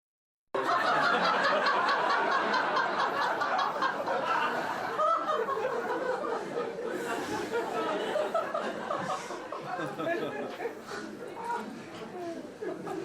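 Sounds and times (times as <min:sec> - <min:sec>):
crowd laughing: 0:00.6 - 0:13.0.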